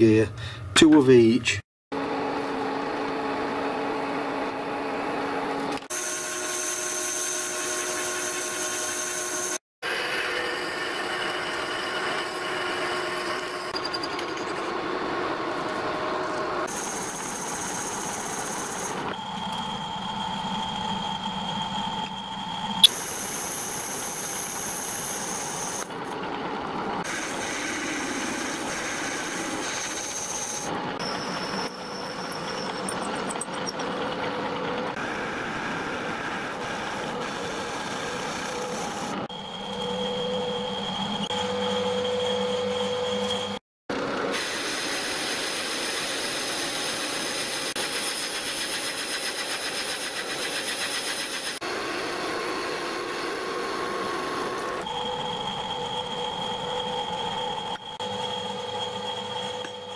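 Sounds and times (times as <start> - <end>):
lathe cutting steel: 6.0 - 26.0, 27.0 - 43.6, 44.4 - 59.9.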